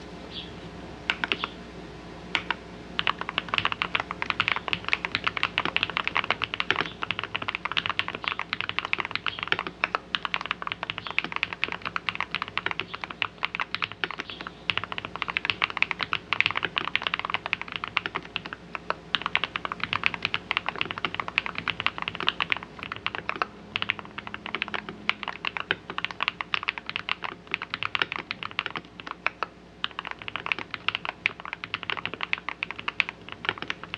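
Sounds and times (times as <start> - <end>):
fast typing on mechanical keyboard: 2.4 - 33.9.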